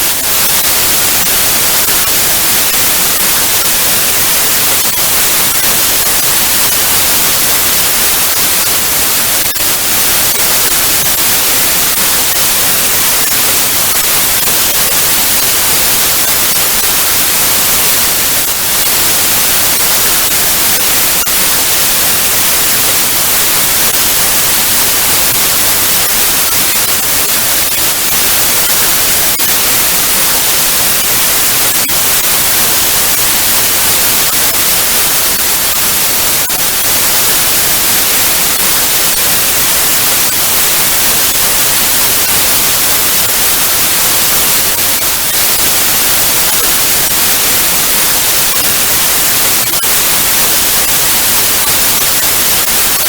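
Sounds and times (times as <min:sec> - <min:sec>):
tv static hiss: 0:00.0 - 0:53.0.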